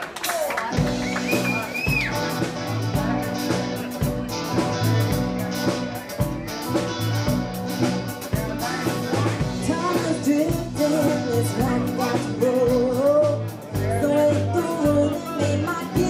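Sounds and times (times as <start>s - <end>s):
drum kit: 0.0s - 16.0s
keyboards: 0.0s - 16.0s
electric guitars: 0.5s - 16.0s
electric bass: 0.7s - 16.0s.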